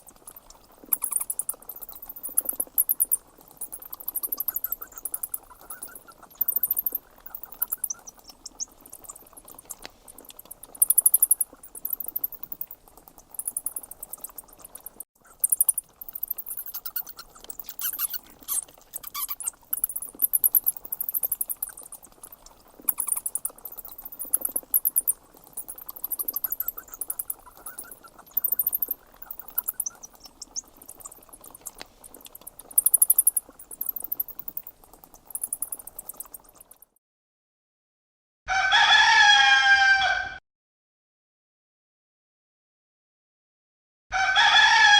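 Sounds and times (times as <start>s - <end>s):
faint steady hiss: 0.0s - 36.9s
rapid bird trills: 0.0s - 36.9s.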